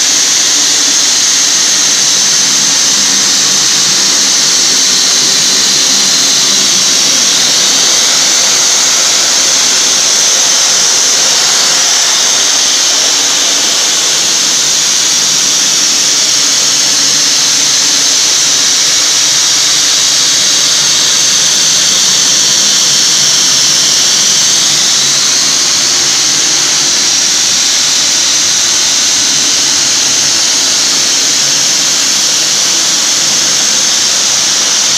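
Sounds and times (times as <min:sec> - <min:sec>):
abrasive blasting hiss on metal: 0:00.0 - 0:34.9.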